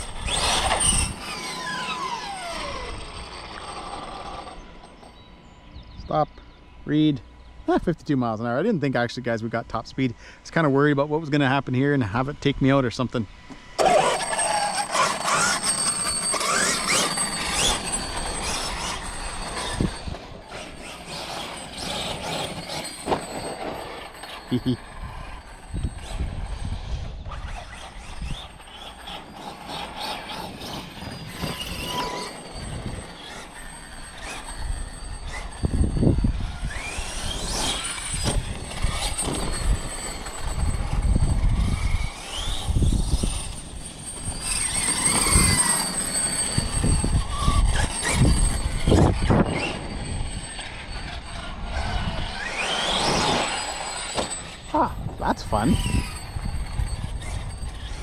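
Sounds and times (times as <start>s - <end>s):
rumble of tyres and wind: 0.0s - 7.8s, 12.1s - 58.0s
rc truck motor whining: 0.0s - 58.0s.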